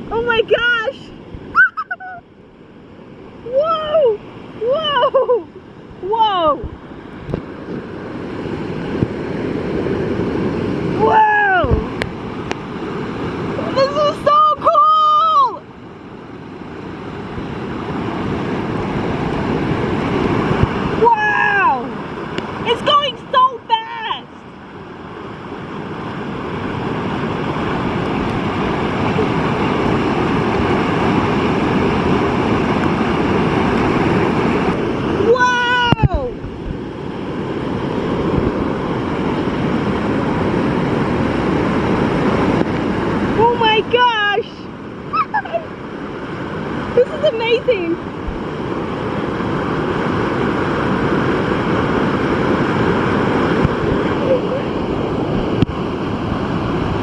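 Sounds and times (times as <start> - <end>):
water rushing roar: 0.0 - 57.0.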